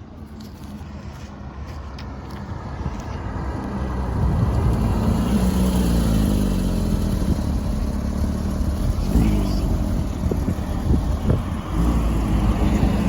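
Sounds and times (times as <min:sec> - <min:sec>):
car engine approaching: 0:00.6 - 0:13.0.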